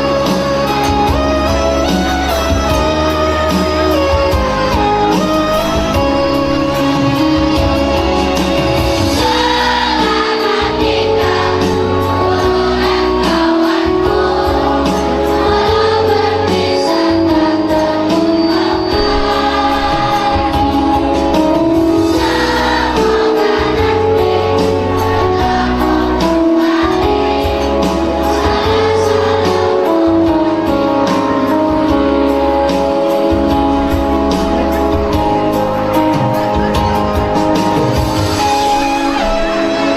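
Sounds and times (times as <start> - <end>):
instrumental backing music: 0.0 - 39.9
children's choir singing: 4.3 - 39.9.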